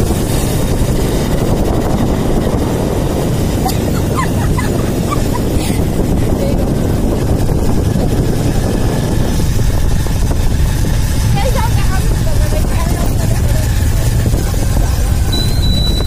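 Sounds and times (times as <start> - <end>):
motorcycle engine rumbling: 0.0 - 16.0
wind buffeting microphone: 0.0 - 16.0.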